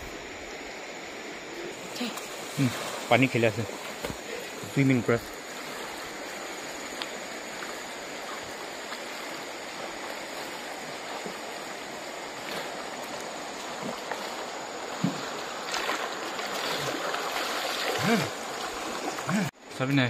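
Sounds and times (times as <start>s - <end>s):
river water flowing: 0.0s - 19.5s.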